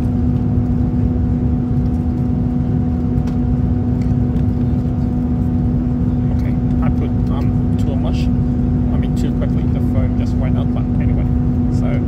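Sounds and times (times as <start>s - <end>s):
aircraft engines and airflow drone: 0.0s - 12.0s
constant low hum: 0.0s - 12.0s.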